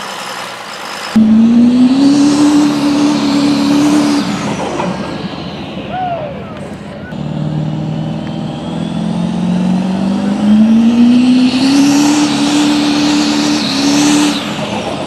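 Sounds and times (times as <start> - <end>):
diesel engine under full load: 0.0 - 15.0.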